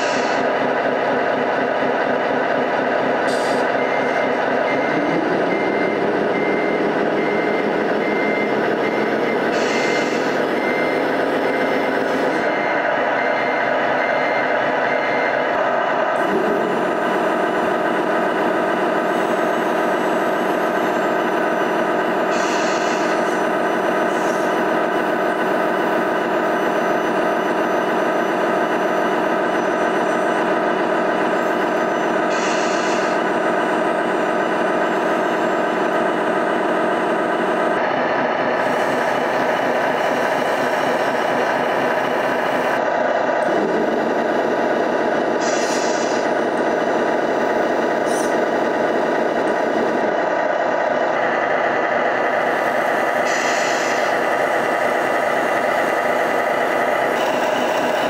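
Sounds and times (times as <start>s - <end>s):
simulated diesel engine idling: 0.0s - 58.0s.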